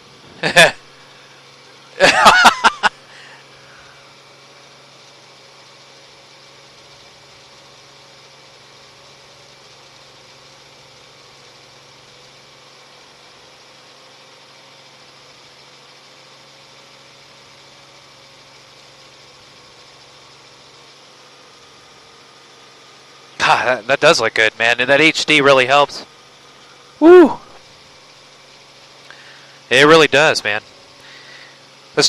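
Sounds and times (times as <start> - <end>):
helicopter engine and rotor drone: 0.0 - 32.0.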